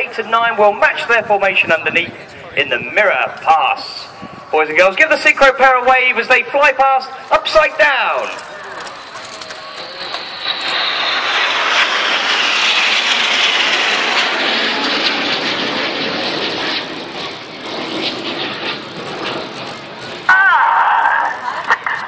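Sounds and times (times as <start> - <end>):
jets passing overhead: 0.0 - 22.0.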